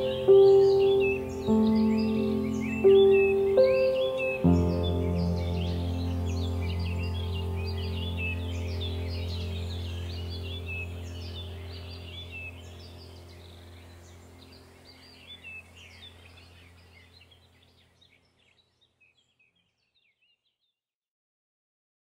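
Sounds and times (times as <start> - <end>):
low steady hum: 0.0 - 18.0
birds chirping: 0.0 - 20.5.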